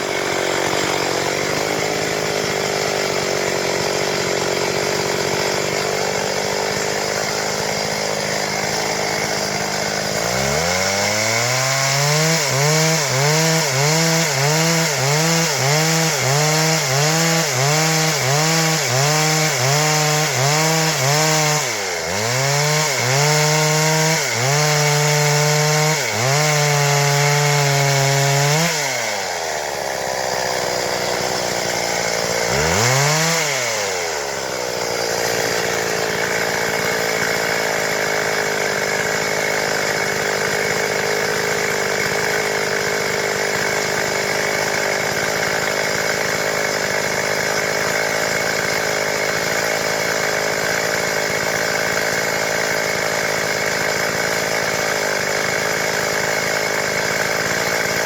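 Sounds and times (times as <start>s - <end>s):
chainsaw sawing wood: 0.0s - 58.0s.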